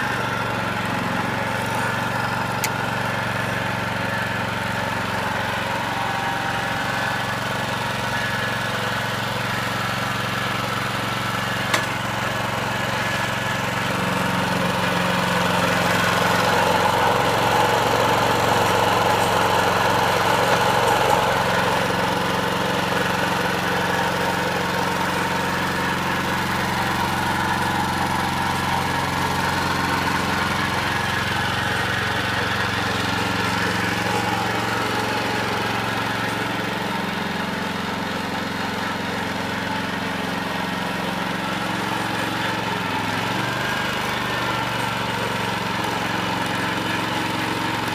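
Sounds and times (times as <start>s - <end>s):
lawnmower engine running: 0.0s - 47.9s.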